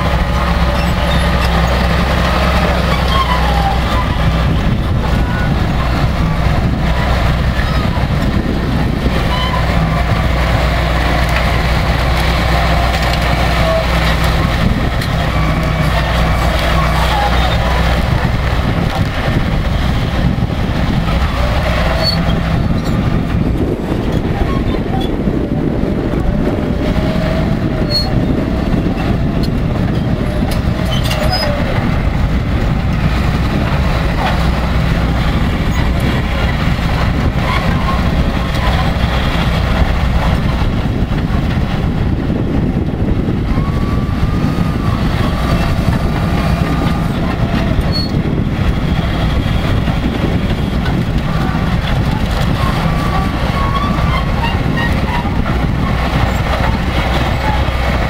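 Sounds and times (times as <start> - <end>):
bulldozer diesel engine under load: 0.0 - 58.0
steel tracks clattering: 0.0 - 58.0.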